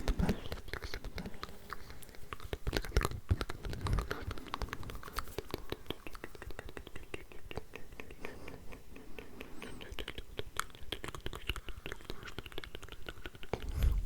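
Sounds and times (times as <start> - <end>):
wet mouth clicks and smacks: 0.0 - 14.0.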